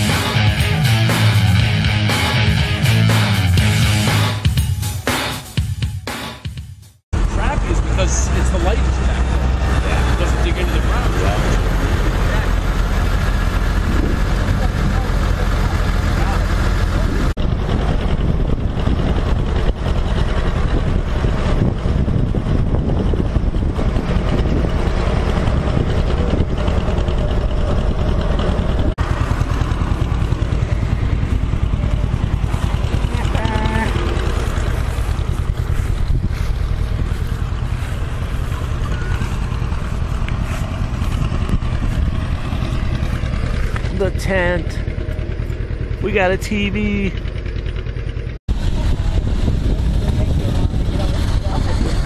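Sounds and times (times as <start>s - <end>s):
tractor engines rumbling: 0.0s - 4.3s, 7.2s - 52.0s.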